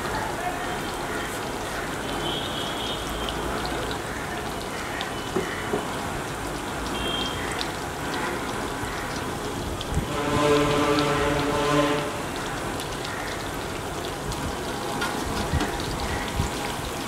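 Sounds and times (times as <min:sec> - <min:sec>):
food deep-frying in hot oil: 0:00.0 - 0:11.6, 0:12.2 - 0:17.0.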